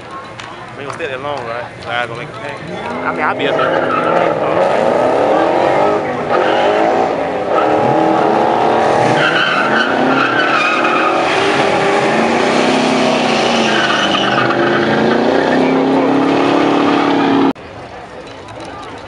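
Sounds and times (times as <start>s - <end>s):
drag car engines accelerating: 0.0s - 18.9s.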